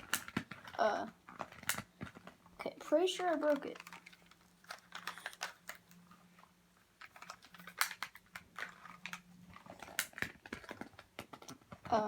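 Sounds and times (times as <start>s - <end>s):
plastic clicks and rattles: 0.0s - 12.0s.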